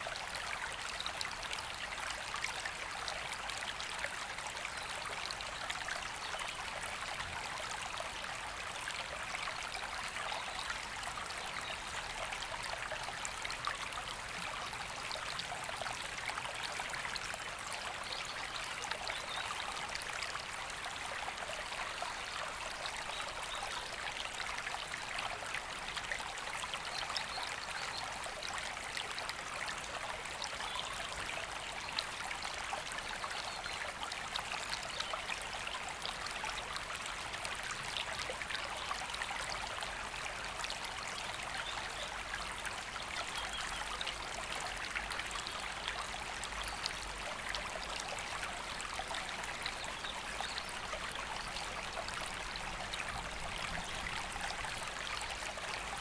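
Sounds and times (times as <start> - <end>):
river water rushing and babbling: 0.0 - 56.0.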